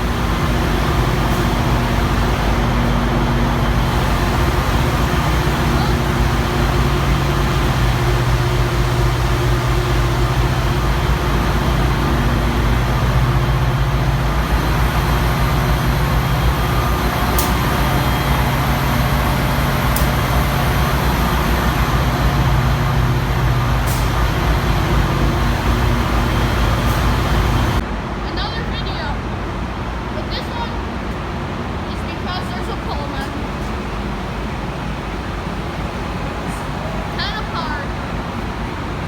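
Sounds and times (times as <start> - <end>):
diesel engine hum: 0.0 - 39.0
train rumble: 0.0 - 39.0.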